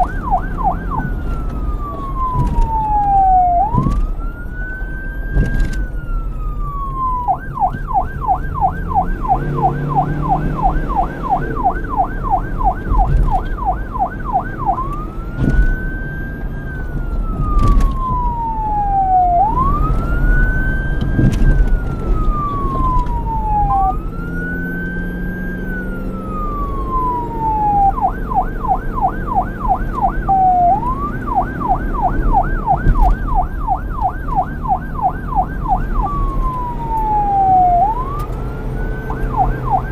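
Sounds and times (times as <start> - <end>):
police siren yelping and wailing: 0.0 - 39.9.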